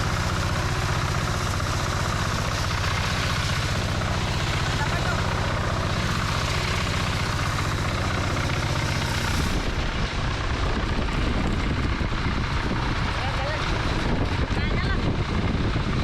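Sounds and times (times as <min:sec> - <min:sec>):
small engine blower running: 0:00.0 - 0:16.0.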